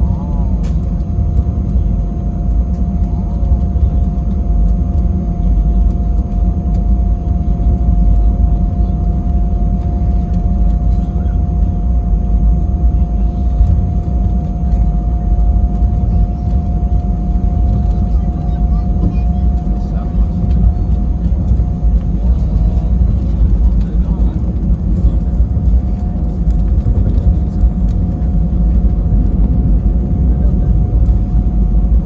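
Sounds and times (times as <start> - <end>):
aircraft engines and airflow rumble: 0.0 - 32.0.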